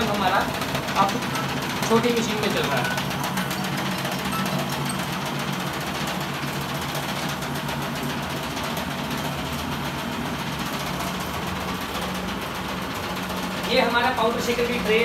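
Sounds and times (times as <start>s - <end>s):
printer mechanical noise: 0.0s - 15.0s.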